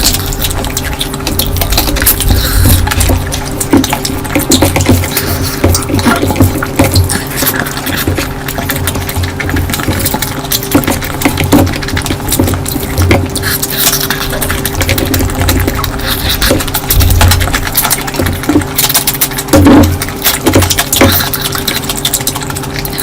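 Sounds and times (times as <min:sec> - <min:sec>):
steady low hum: 0:00.0 - 0:23.0
wet chewing and smacking: 0:00.0 - 0:23.0.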